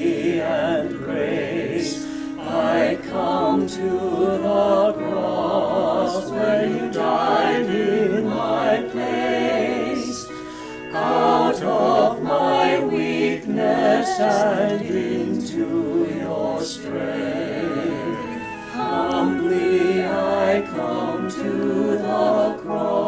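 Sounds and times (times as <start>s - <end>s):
mixed choir singing a cappella: 0.0s - 23.0s.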